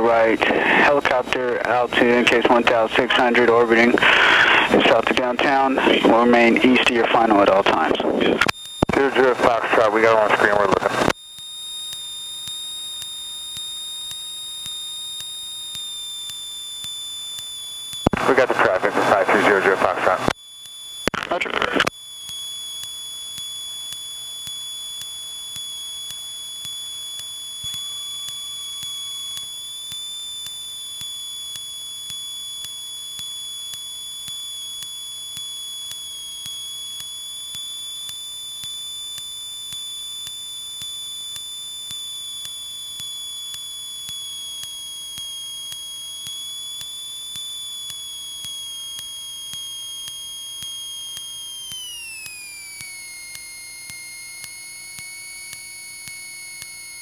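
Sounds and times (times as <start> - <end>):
high-pitched electrical whine: 0.0 - 57.0.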